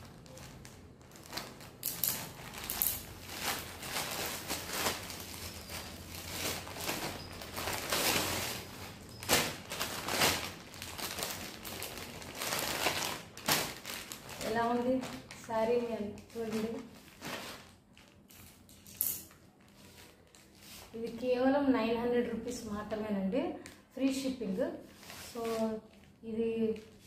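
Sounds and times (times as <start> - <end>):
plastic packaging crinkling: 0.0 - 21.2, 24.9 - 27.0.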